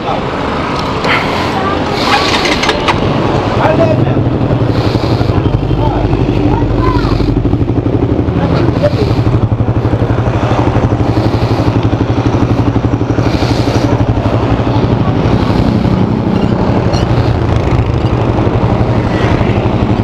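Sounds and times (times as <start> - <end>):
motorcycle engine idling: 2.1 - 20.0.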